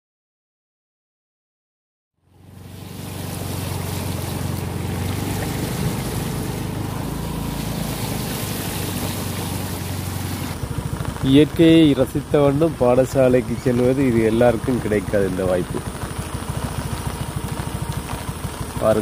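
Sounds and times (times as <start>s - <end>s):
motorcycle engine hum: 2.2s - 19.0s
water spraying from wheel: 2.3s - 19.0s.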